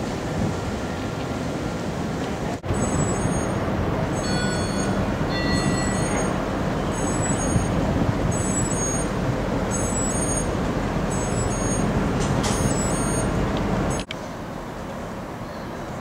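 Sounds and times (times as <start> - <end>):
ship rumble: 0.0 - 16.0
wind on ship deck: 0.0 - 16.0.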